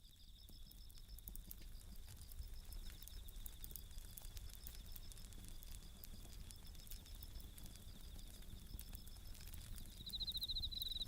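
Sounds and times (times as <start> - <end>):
crickets trilling: 0.0 - 11.0
campfire crackling and popping: 0.1 - 11.0.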